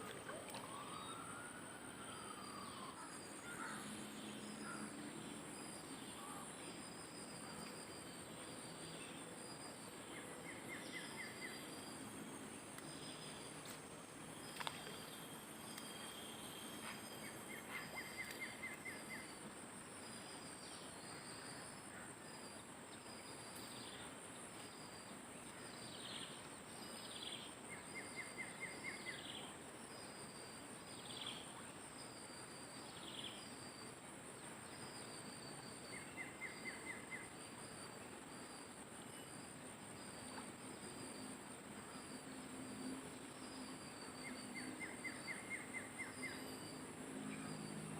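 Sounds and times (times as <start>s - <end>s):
insect chorus drone: 0.0s - 47.9s.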